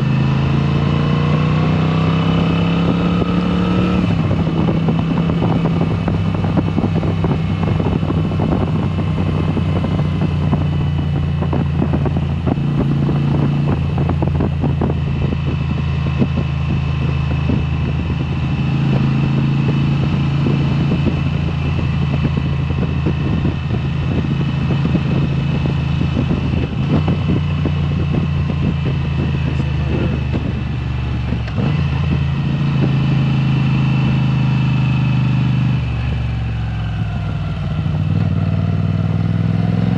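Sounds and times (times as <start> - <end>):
loud motorcycle engine revving: 0.0 - 39.9.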